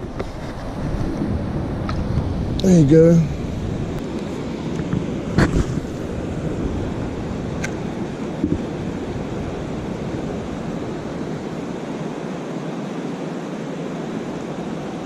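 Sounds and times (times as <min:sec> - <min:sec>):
water rushing below dam: 0:00.0 - 0:15.0.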